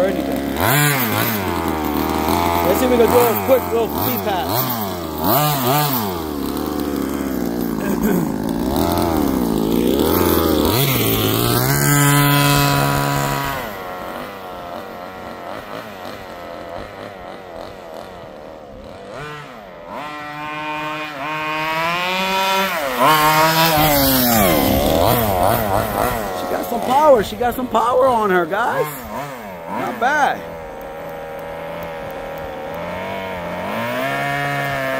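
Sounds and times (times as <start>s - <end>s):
small two-stroke engine revving: 0.0s - 34.9s.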